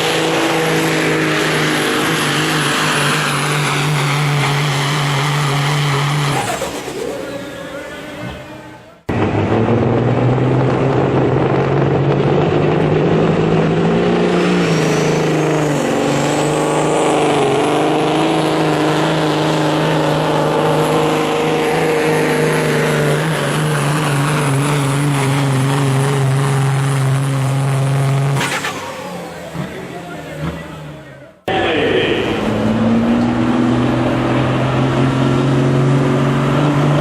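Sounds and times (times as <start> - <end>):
diesel truck engine at high revs: 0.0 - 37.0.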